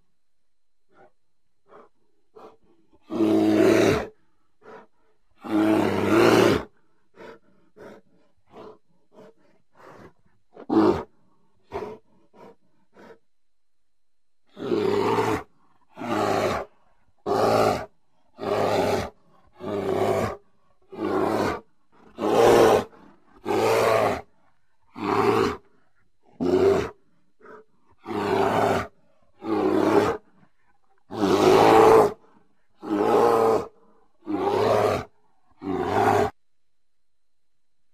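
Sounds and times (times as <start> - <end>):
bear roaring: 0.9 - 13.2, 14.5 - 36.4.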